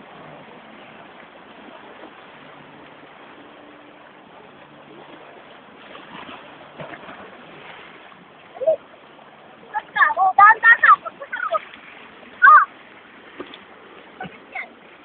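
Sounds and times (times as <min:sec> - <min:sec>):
water splashes: 0:00.0 - 0:15.0.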